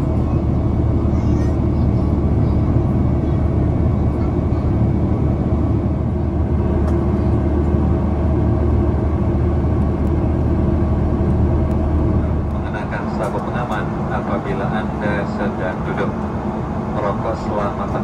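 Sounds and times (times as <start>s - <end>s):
airplane cabin engine drone: 0.0s - 18.0s
low steady hum: 0.0s - 18.0s
rushing airflow: 0.0s - 18.0s.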